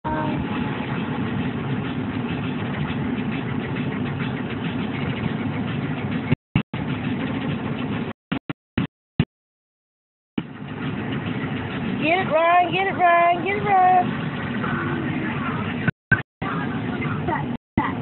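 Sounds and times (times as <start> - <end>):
car cabin road and engine noise: 0.0 - 8.4, 10.4 - 18.0.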